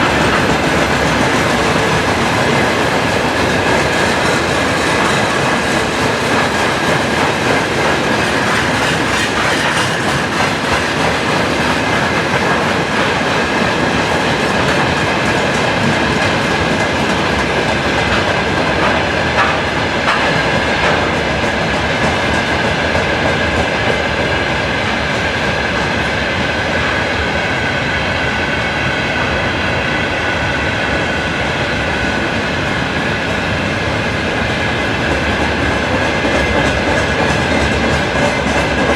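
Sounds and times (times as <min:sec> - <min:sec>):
train wheels clicking on rail joints: 0:00.0 - 0:28.4, 0:29.7 - 0:38.9.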